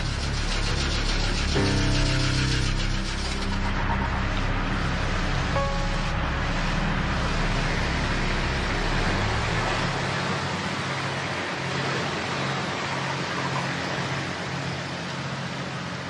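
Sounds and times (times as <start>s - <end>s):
car engine rumbling: 0.0s - 12.9s.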